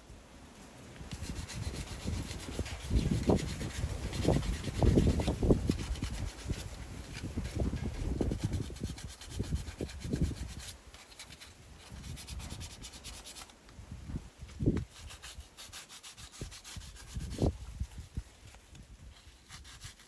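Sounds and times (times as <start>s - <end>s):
tool rubbing on plastic pipe: 1.1s - 13.5s, 14.8s - 18.1s, 19.1s - 20.0s.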